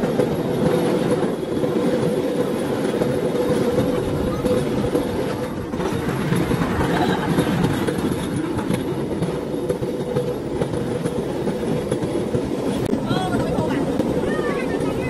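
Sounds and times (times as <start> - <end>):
steel wheels rattling on rails: 0.0 - 15.0.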